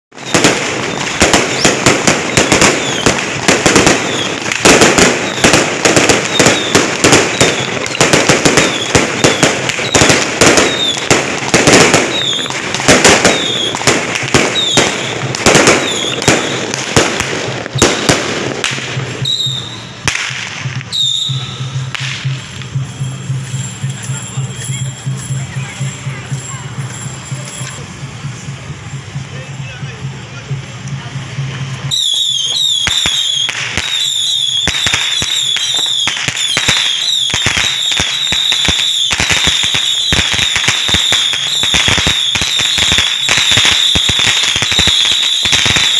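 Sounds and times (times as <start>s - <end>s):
firecrackers banging: 0.1s - 45.9s.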